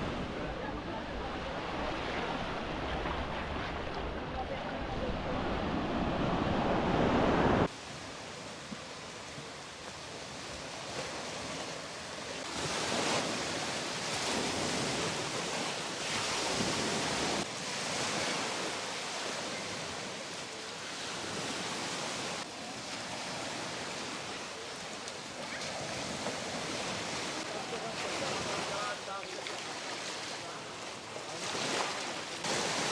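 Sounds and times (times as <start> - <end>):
deep rush of water: 0.0 - 32.9
sea surf breaking on beach: 0.0 - 32.9.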